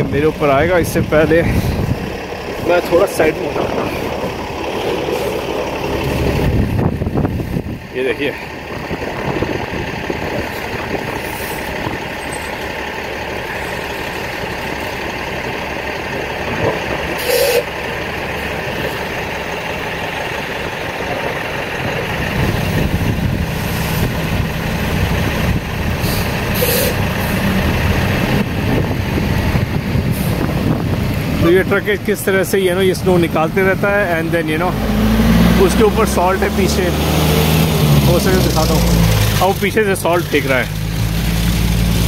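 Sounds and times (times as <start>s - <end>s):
snowplow truck diesel engine: 0.0s - 42.0s.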